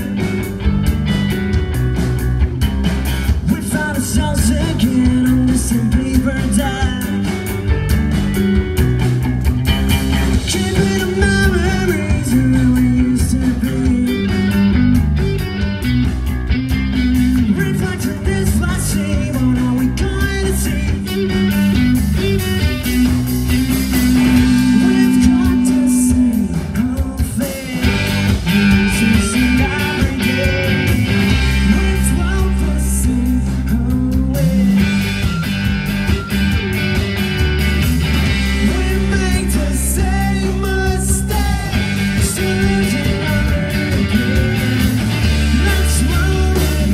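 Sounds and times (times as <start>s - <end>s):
live rock band: 0.0s - 46.9s.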